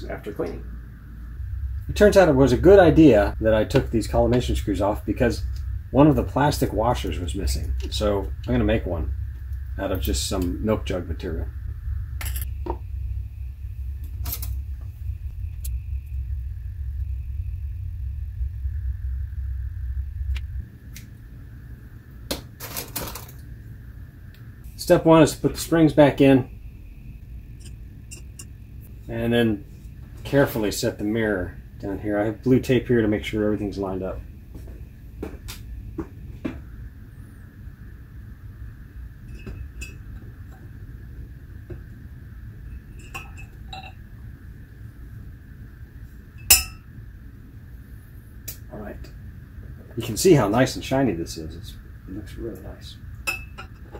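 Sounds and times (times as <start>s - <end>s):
low rumble: 0.0s - 22.4s, 23.2s - 53.9s
low background hum: 0.0s - 53.9s.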